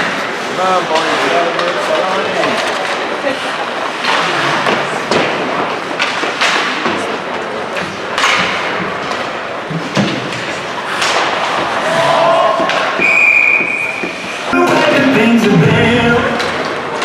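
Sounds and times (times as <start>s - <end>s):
skate blades scraping ice: 0.0s - 15.1s.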